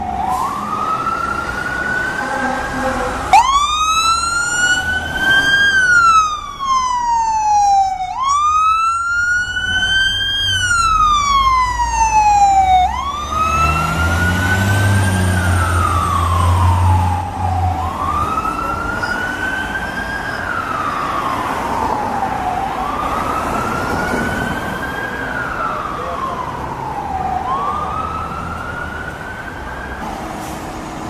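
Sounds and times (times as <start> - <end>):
fire engine siren wailing: 0.0 - 31.0
truck engine rumble: 0.0 - 31.0.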